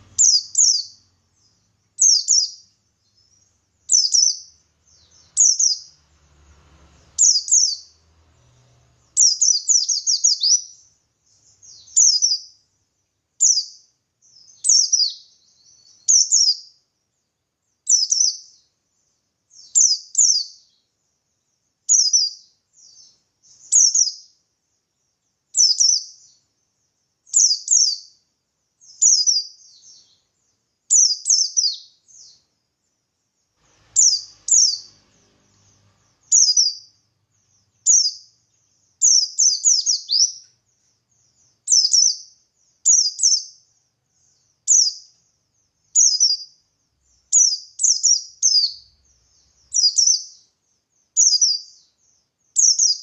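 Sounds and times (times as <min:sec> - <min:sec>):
bird chirping rapid high bursts: 0:00.0 - 0:16.8, 0:17.7 - 0:18.8, 0:19.5 - 0:20.9, 0:21.7 - 0:24.4, 0:25.4 - 0:28.2, 0:28.8 - 0:32.5, 0:33.4 - 0:53.0.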